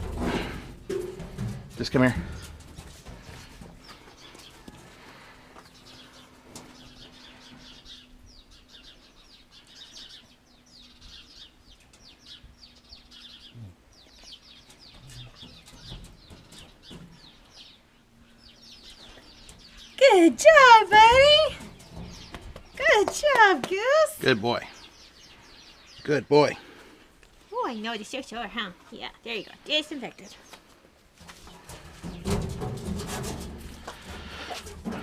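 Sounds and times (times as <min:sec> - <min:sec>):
small birds chirping: 0:00.8 - 0:32.7.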